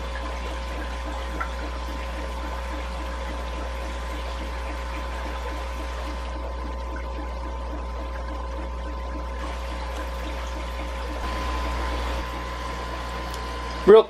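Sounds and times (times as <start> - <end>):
water bubbling and trickling: 0.0 - 13.9
aquarium air pump humming: 0.0 - 14.0.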